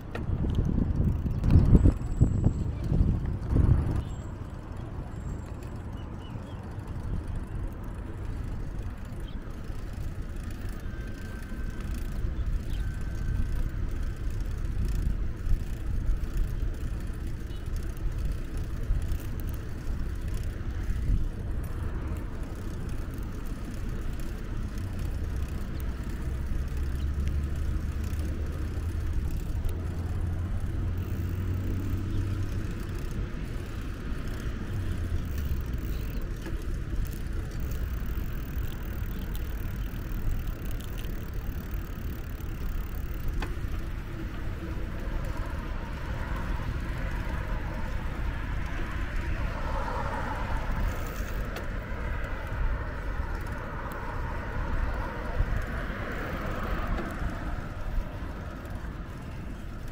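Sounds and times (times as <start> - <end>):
bicycle tyre hum: 0.0 - 59.9.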